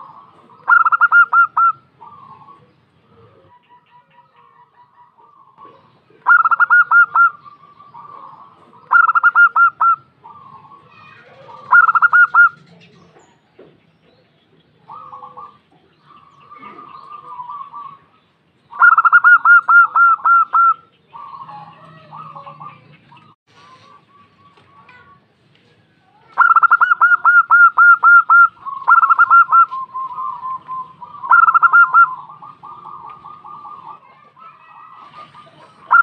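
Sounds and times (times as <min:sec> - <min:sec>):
dove cooing: 0:00.0 - 0:12.9, 0:14.8 - 0:25.2, 0:26.3 - 0:36.0.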